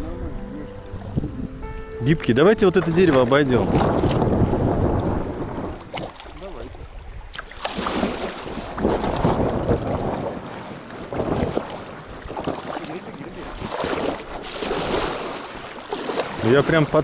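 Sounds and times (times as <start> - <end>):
wind buffeting microphone: 0.0 - 17.0
paddle strokes splashing: 2.7 - 17.0.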